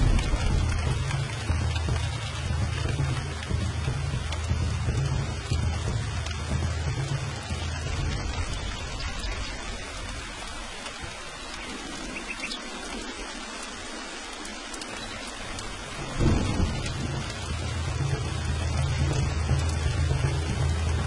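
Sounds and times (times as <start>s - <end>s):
steady rain falling: 0.0s - 21.0s
thunder clap and rumble: 0.0s - 21.0s.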